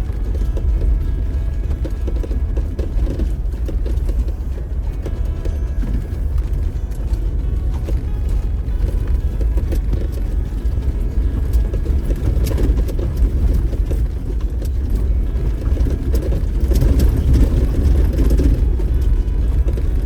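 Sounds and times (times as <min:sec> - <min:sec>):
engine and tyre rumble: 0:00.0 - 0:20.0
light knocks and rattles: 0:00.0 - 0:20.0.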